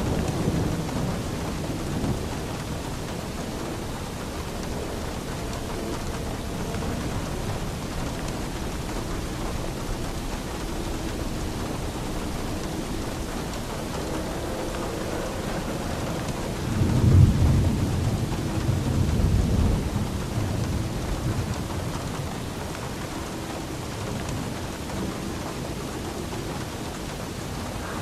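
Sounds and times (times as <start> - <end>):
steady rain: 0.0 - 28.0
thunder rumble: 0.0 - 28.0.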